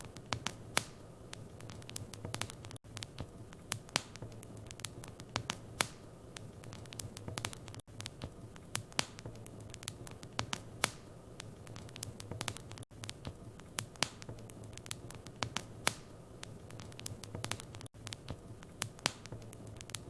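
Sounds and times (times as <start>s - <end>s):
faint hiss: 0.0s - 20.0s
wood fire crackling: 0.0s - 20.0s.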